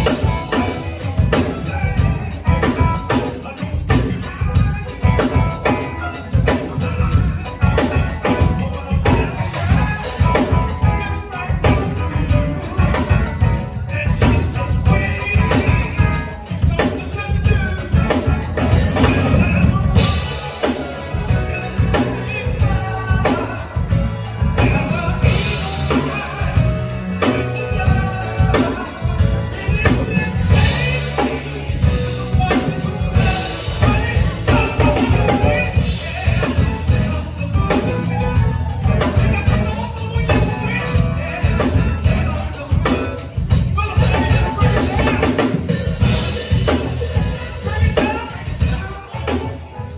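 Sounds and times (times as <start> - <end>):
deep bass line: 0.0 - 49.9
drum kit beat: 0.0 - 49.9.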